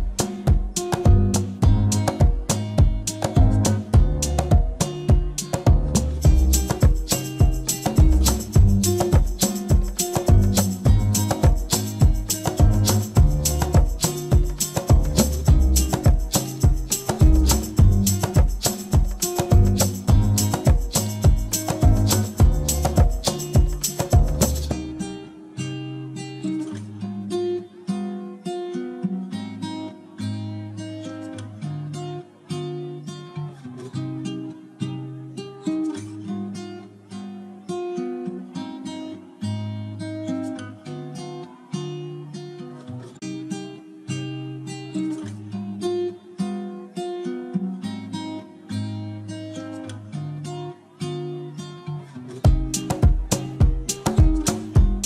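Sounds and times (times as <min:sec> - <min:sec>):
acoustic guitar picking melody: 0:00.0 - 0:55.0.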